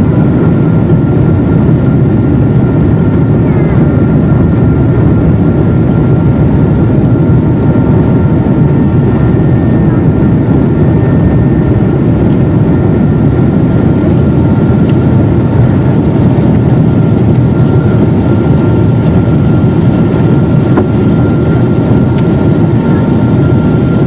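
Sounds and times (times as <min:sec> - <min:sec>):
jet engines roaring: 0:00.0 - 0:24.0
thin engine whine: 0:00.0 - 0:24.0.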